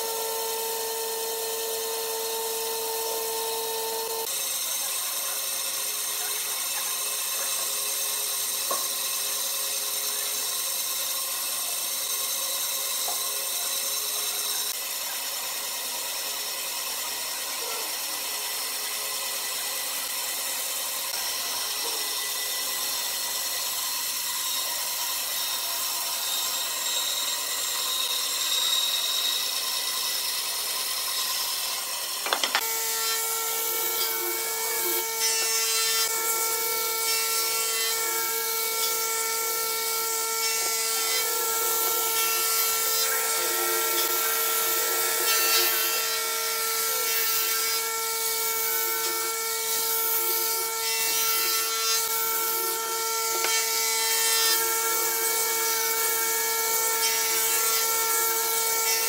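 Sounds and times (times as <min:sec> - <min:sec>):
angle grinder sanding wood: 0:00.0 - 0:59.0
band saw cutting wood: 0:00.0 - 0:59.0.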